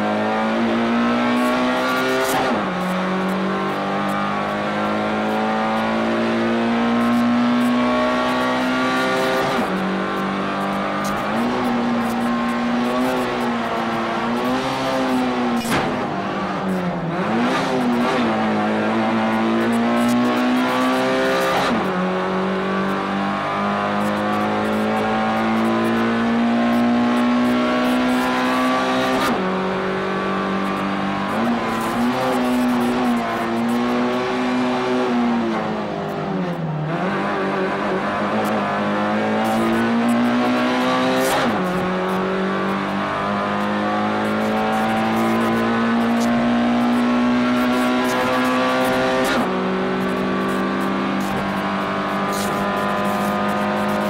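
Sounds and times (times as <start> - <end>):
racing car engine accelerating: 0.0 - 54.0.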